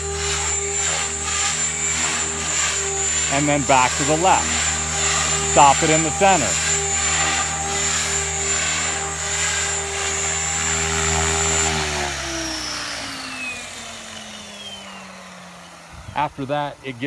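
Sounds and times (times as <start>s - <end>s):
model helicopter motor and rotor: 0.0s - 17.0s.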